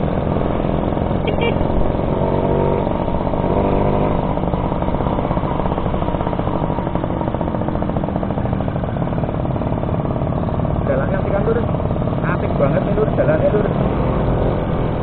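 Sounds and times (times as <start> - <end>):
two-stroke motorcycle engine: 0.0 - 15.0.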